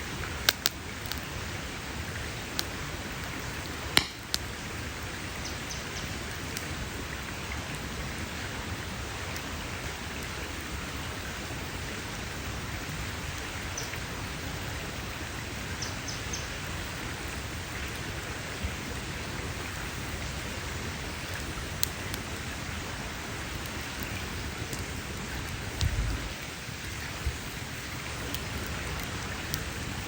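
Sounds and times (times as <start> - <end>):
campfire crackling and hissing: 0.0 - 30.0.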